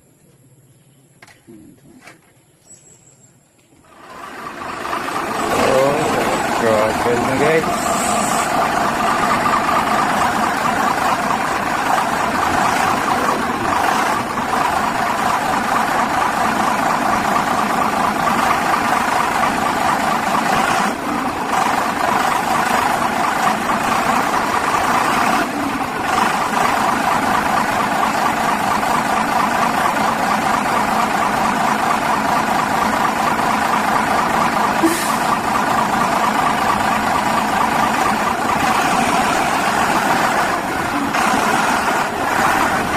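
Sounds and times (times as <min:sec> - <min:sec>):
diesel engine running: 0:03.8 - 0:42.9.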